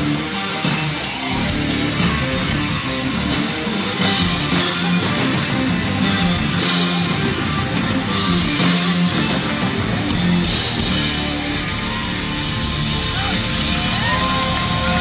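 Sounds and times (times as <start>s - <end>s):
live rock band instrumental: 0.0s - 15.0s.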